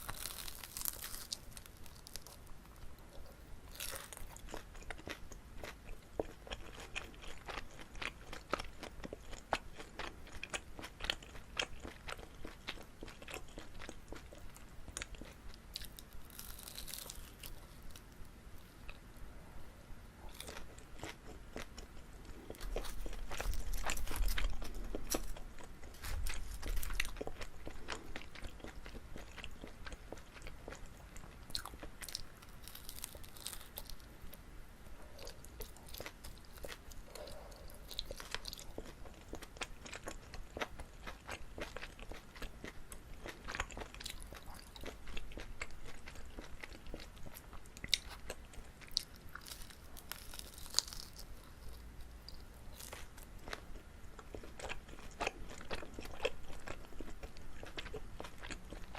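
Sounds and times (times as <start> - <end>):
chewing sticky rice cakes: 0.0 - 19.1, 20.2 - 34.4, 35.0 - 58.9.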